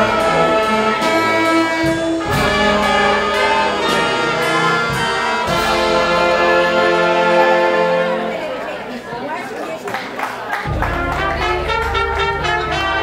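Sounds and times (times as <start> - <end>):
concert wind band playing: 0.0 - 8.7, 10.7 - 13.0.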